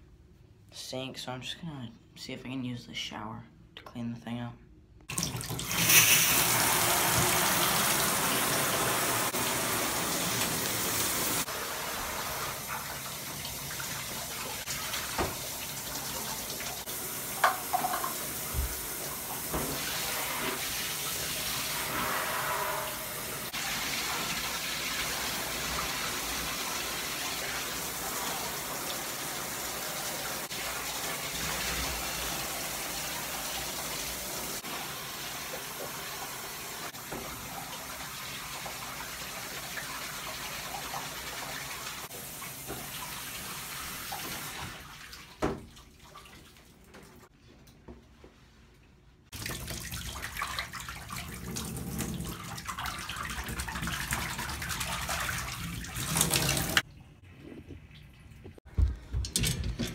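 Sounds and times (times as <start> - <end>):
water running into a bathtub: 5.1 - 47.4, 48.3 - 59.9.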